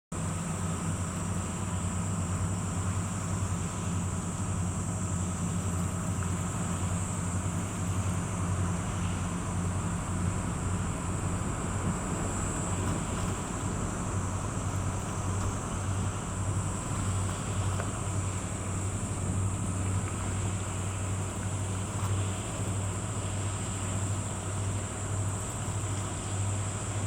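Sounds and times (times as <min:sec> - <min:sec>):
boat diesel engine: 0:00.1 - 0:27.0.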